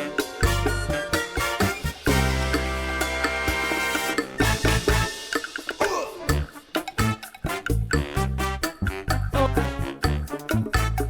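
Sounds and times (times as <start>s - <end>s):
upbeat music with bass and brass: 0.0s - 11.0s.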